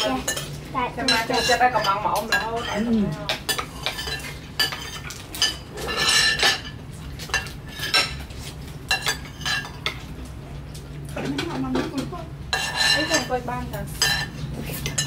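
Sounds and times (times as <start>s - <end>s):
cutlery clinking on plates: 0.0s - 8.3s, 8.9s - 10.1s, 11.1s - 13.3s, 14.0s - 15.0s.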